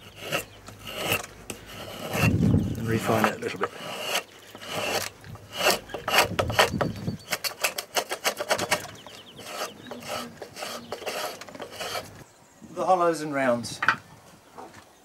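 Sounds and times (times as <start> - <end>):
spokeshave scraping wood: 0.0 - 12.3.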